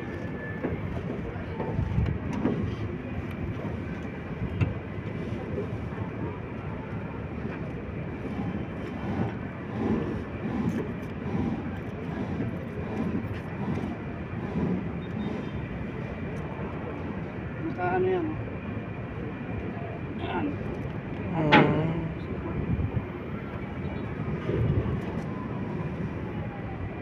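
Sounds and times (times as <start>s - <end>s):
faint murmured voices: 0.0s - 27.0s
low background rumble: 0.0s - 27.0s.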